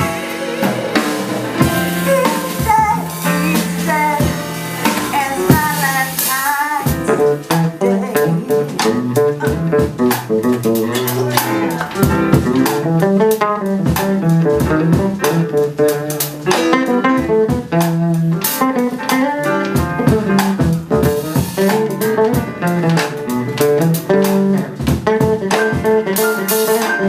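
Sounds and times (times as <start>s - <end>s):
drum kit: 0.0s - 27.0s
electric bass guitar: 0.0s - 27.0s
piano: 0.0s - 27.0s.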